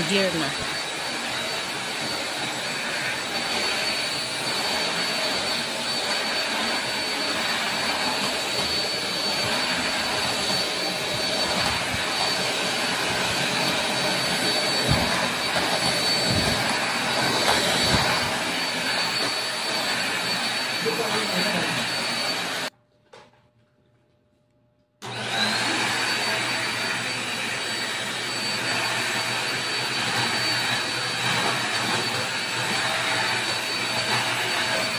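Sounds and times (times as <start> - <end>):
vacuum cleaner running: 0.0 - 22.7, 25.0 - 34.9.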